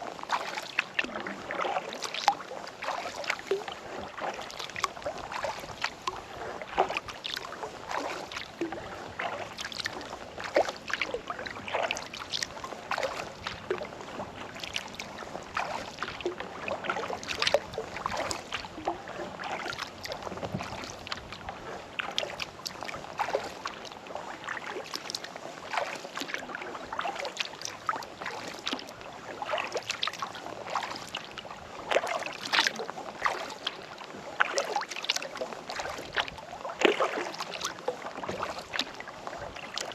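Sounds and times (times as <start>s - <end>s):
paddle strokes in water: 0.0s - 39.9s
water dripping and splashing: 0.0s - 39.9s.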